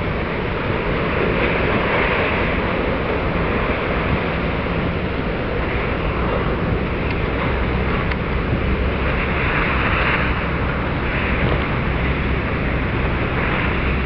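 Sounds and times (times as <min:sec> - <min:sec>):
ship engine drone: 0:00.0 - 0:14.0
water wash: 0:00.0 - 0:14.0
wind on microphone: 0:00.0 - 0:14.0.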